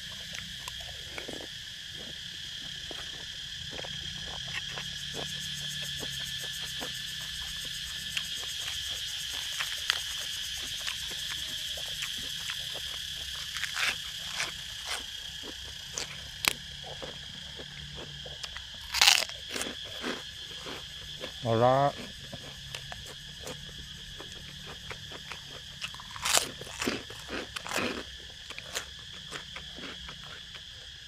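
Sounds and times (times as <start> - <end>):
crunching and chewing: 0.0 - 31.0
insects chirring: 0.0 - 31.0.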